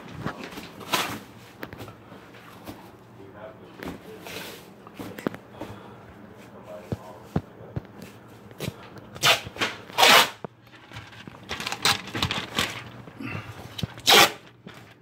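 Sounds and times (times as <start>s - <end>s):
rustling handling noises: 0.0s - 15.0s.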